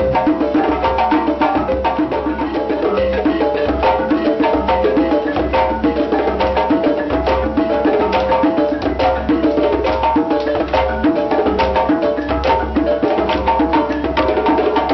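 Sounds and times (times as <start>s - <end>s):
balafon wooden notes: 0.0s - 14.9s
djembe drumming: 0.0s - 14.9s.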